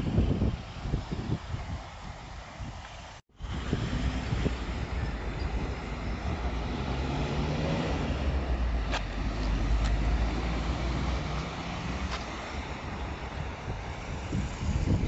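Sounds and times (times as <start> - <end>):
cars and buses driving past: 0.0 - 15.0.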